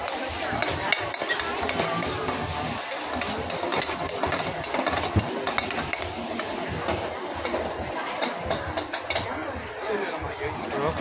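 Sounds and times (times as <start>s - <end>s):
frying hiss: 0.0s - 11.0s
metal spatula scraping wok: 0.1s - 9.3s.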